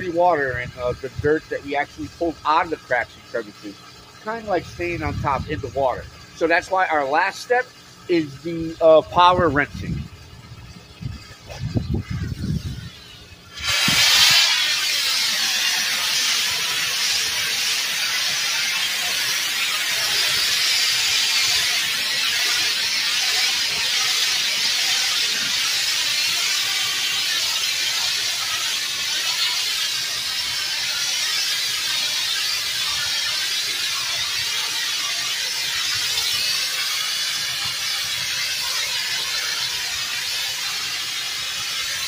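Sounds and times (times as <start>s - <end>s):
pressure washer spraying: 0.0s - 42.0s.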